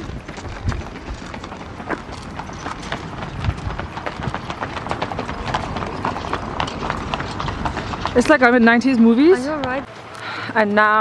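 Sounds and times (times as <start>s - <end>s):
horse hooves clip-clopping: 0.0s - 10.3s.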